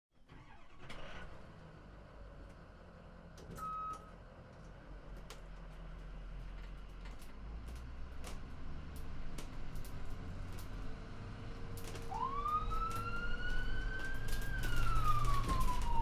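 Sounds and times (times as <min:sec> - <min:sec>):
ambulance engine rumbling: 0:00.3 - 0:16.0.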